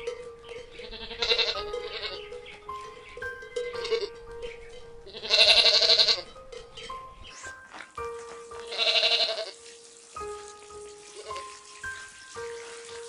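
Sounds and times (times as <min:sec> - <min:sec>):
background music of held notes: 0:00.0 - 0:13.0.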